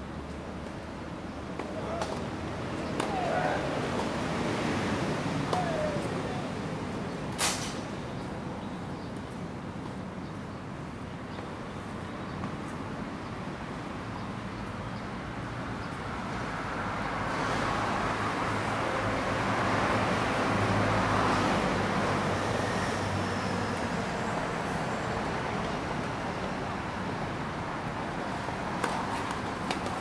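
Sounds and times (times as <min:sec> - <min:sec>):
road traffic engine hum: 0:00.0 - 0:30.0.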